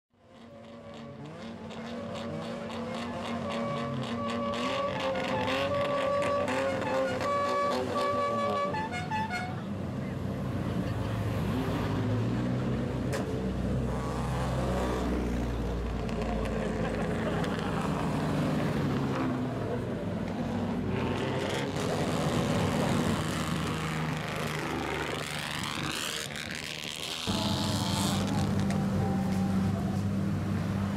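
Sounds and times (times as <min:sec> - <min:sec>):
cars driving past revving: 0:00.2 - 0:30.9.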